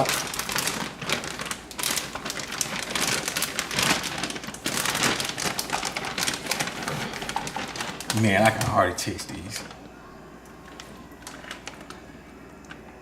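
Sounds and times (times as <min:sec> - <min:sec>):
plastic bag crinkling: 0:00.0 - 0:09.8, 0:10.6 - 0:12.3.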